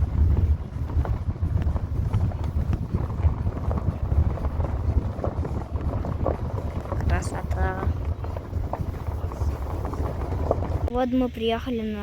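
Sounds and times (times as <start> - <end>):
wind buffeting microphone: 0.0 - 11.0
road and engine rumble: 0.0 - 12.0.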